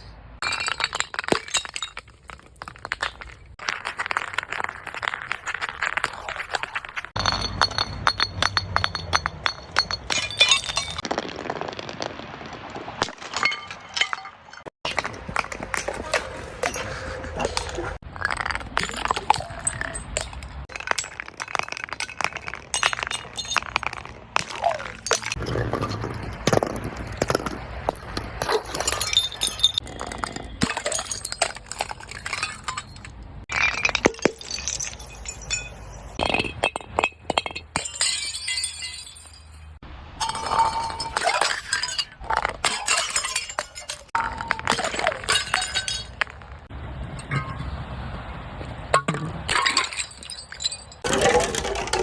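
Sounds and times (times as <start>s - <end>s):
glass being crushed: 0.4s - 12.3s, 13.0s - 15.9s, 18.0s - 47.6s, 49.0s - 52.0s.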